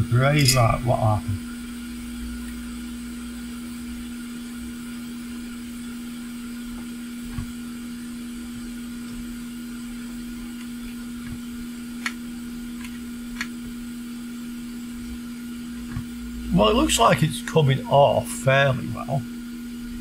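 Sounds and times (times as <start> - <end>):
electric blower humming: 0.0 - 20.0.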